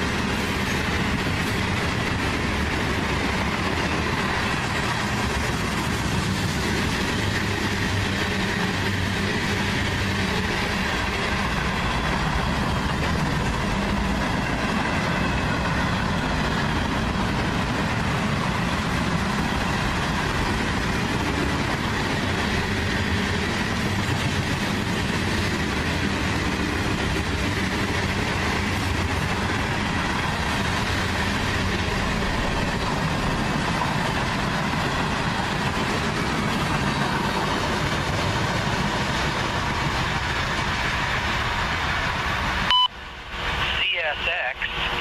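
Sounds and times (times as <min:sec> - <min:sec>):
train wheels running on rails: 0:00.0 - 0:45.0.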